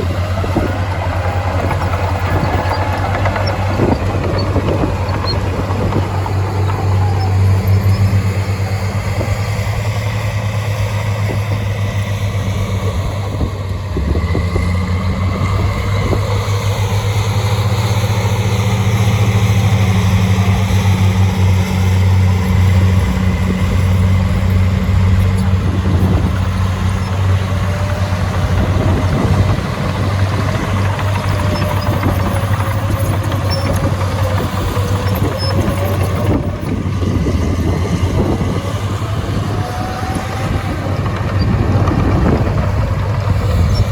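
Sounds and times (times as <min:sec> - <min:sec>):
heavy diesel engine droning: 0:00.0 - 0:43.9.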